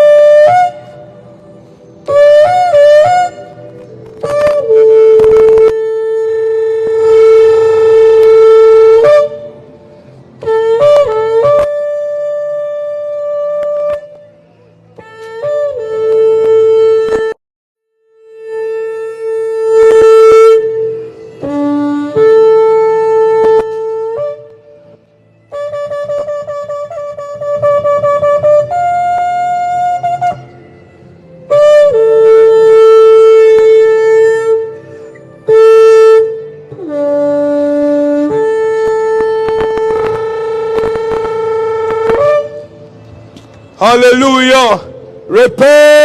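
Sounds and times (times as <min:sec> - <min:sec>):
ram's horn blasts: 0:00.0 - 0:09.7, 0:10.4 - 0:17.4, 0:18.2 - 0:46.0.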